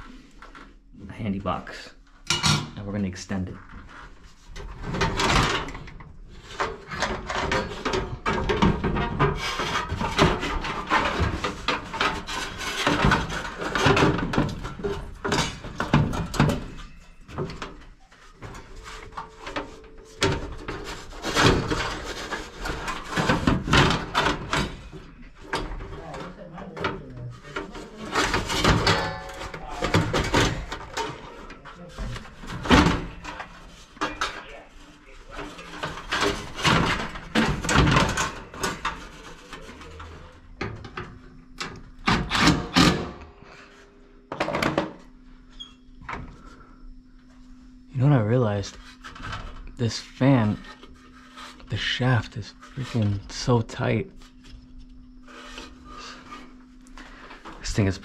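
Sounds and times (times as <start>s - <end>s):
tools and parts knocking and scraping: 2.2s - 2.9s, 3.6s - 46.6s, 48.4s - 58.0s.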